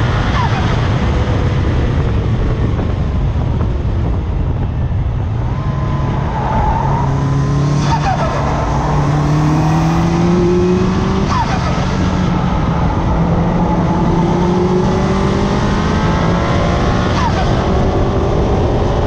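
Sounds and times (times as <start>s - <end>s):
car engine accelerating: 0.0s - 19.0s
road and wind noise: 0.0s - 19.0s.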